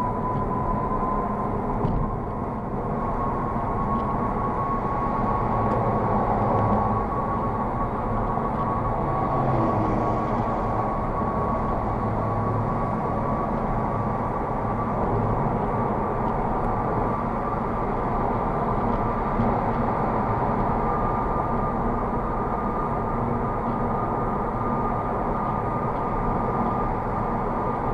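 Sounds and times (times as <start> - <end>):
high-pitched tyre whine: 0.0 - 27.9.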